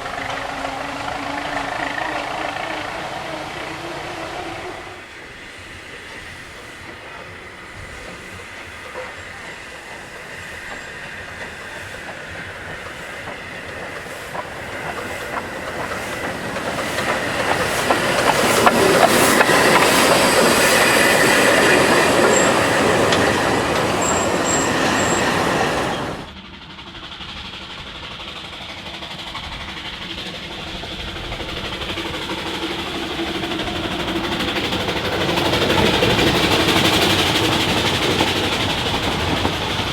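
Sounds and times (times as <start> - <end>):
model train clickety-clack: 0.0 - 39.9.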